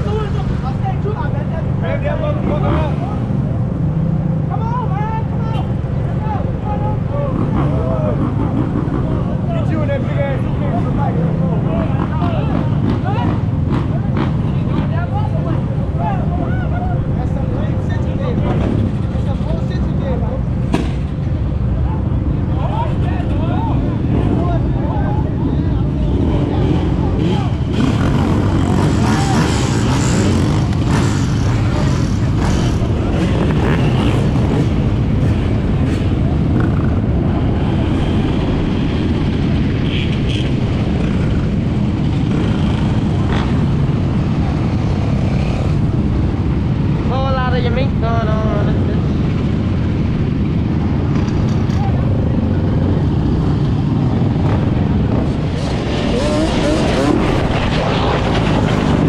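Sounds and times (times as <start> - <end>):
dirt bike and atv engines revving: 0.0 - 59.0.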